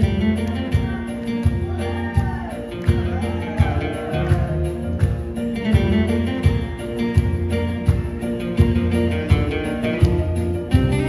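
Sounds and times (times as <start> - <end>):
guitar: 0.0 - 11.0
steady bass beat: 0.0 - 11.0.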